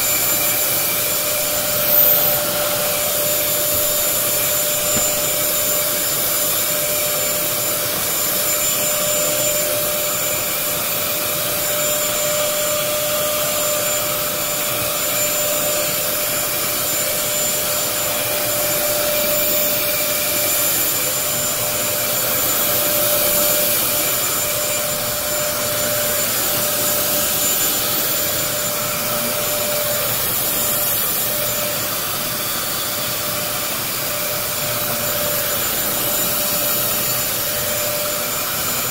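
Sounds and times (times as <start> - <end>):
carpet cleaner motor whining: 0.0 - 38.9.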